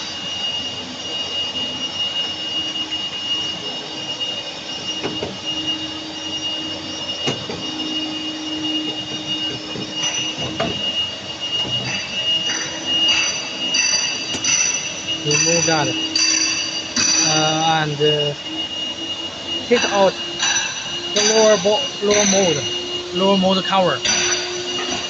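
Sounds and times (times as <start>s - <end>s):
punch press humming and whining: 0.0s - 25.0s.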